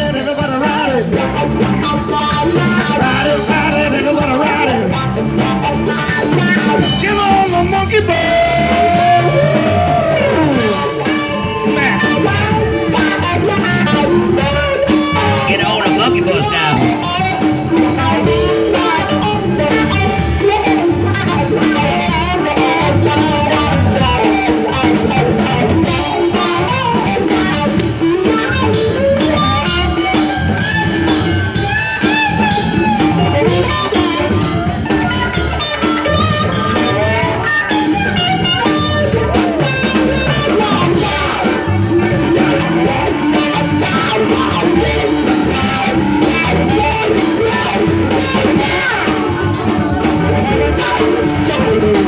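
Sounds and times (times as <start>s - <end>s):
live blues band playing: 0.0s - 52.0s.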